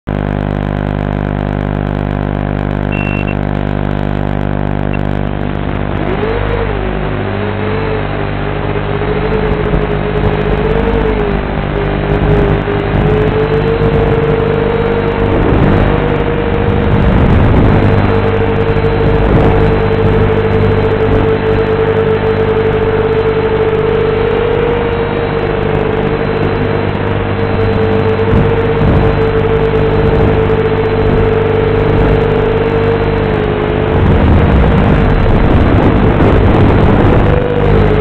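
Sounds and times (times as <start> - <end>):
quadcopter motors buzzing and whining: 0.1 - 38.0.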